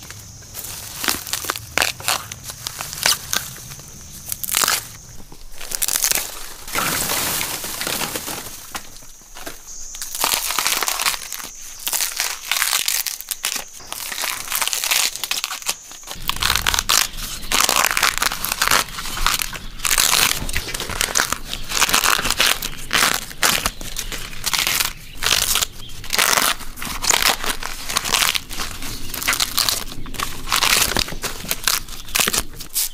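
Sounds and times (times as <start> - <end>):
bamboo shoots snapping and tearing: 0.0 - 32.9.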